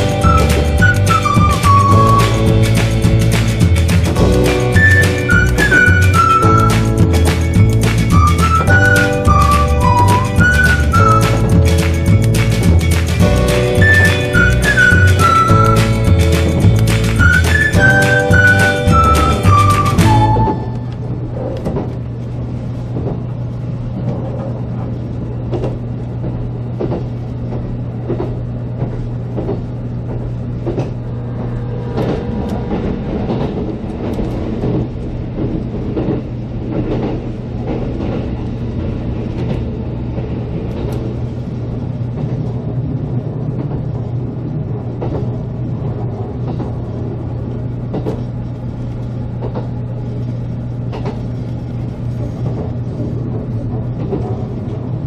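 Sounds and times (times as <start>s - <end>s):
train low hum: 0.0s - 55.0s
wheels rumbling on rail: 0.0s - 55.0s.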